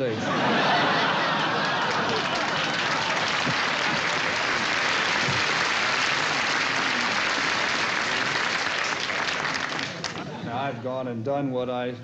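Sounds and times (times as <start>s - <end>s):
audience applauding: 0.4s - 10.4s.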